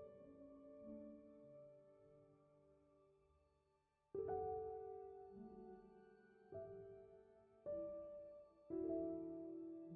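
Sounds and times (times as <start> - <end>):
slow soft instrumental music: 0.0 - 3.1, 4.1 - 9.9.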